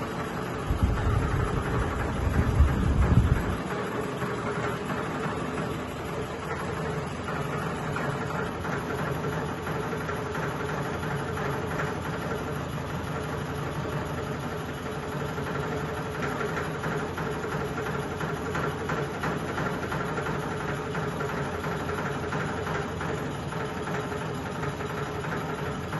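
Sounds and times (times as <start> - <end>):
ceiling fan humming: 0.0 - 25.9
fan rattling: 0.0 - 25.9.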